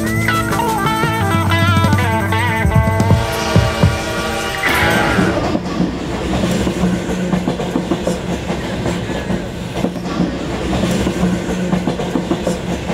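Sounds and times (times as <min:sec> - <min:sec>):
train rumbling along rails: 0:00.0 - 0:12.9.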